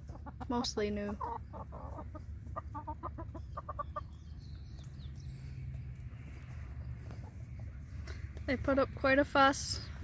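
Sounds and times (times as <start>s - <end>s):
chickens clucking: 0.0s - 8.9s.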